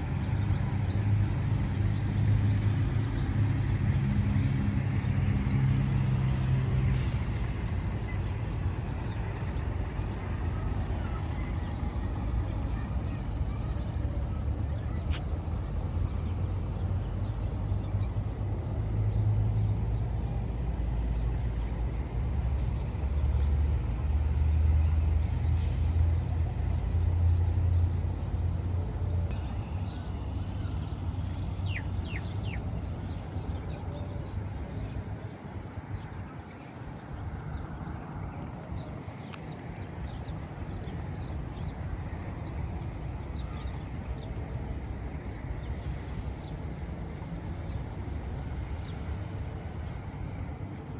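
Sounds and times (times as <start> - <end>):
vehicles rumbling past: 0.0 - 50.9.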